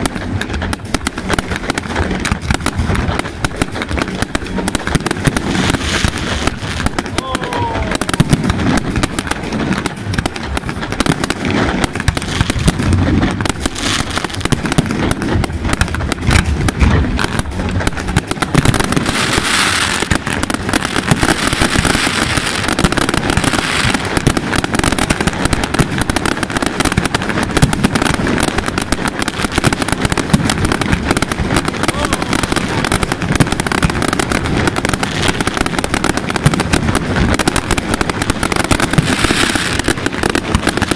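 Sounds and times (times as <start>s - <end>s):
fireworks crackling and hissing: 0.0s - 40.9s.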